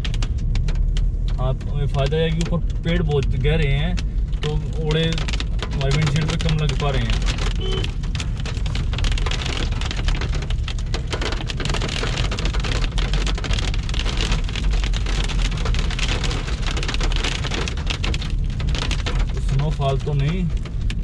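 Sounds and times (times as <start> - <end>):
car engine and road rumble: 0.0 - 21.0
hailstones ticking on a car: 0.0 - 21.0.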